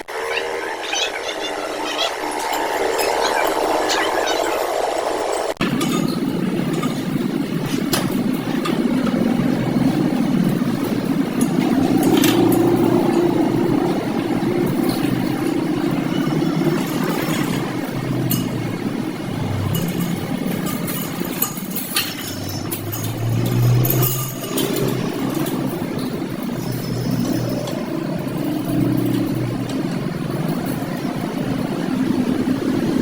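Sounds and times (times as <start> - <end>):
machine running: 0.0 - 33.0.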